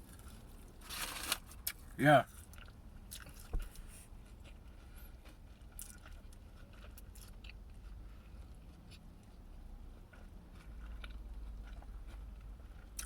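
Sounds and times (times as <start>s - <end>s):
low hum inside a car: 0.0s - 13.0s
person chewing with crunches: 0.0s - 13.0s.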